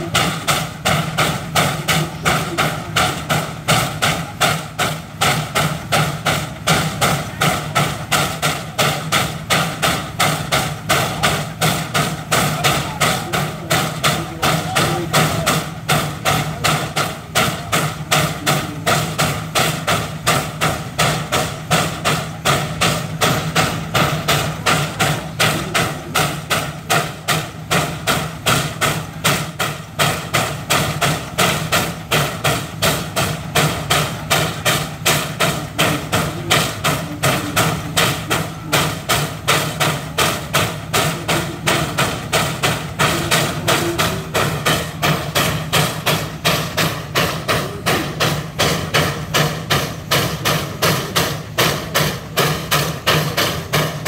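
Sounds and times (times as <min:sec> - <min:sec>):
steam roller exhaust chuffing: 0:00.0 - 0:54.0.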